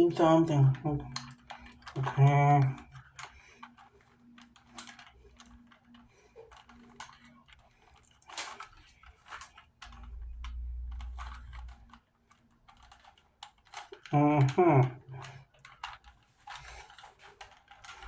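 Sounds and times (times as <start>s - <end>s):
plastic puzzle cube clicking: 0.0s - 18.0s.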